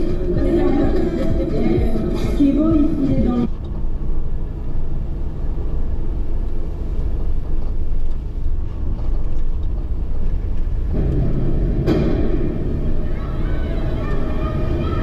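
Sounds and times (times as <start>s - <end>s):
car driving on highway: 0.0s - 15.0s.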